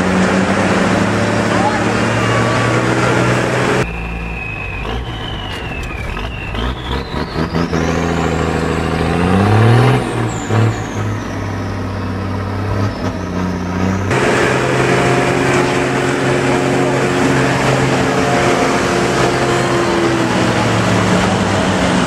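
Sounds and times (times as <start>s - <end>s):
diesel truck engine under load: 0.0s - 22.0s
high whine: 0.0s - 22.0s.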